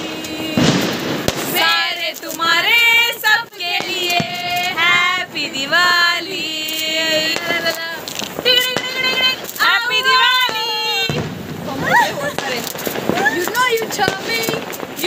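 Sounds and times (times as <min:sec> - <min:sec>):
firecracker hiss and crack: 0:00.0 - 0:15.0
woman singing: 0:00.0 - 0:15.0.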